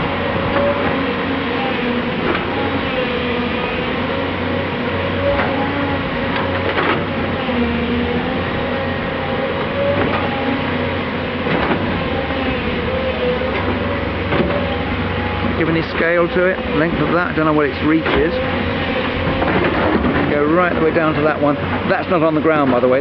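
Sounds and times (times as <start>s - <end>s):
wavering hydraulic whine: 0.0s - 22.2s
diesel earthmoving machinery running: 0.0s - 23.0s.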